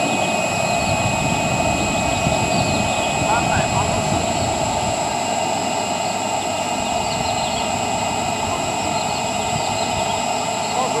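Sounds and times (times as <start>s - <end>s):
machine drone with high whine: 0.0s - 11.0s.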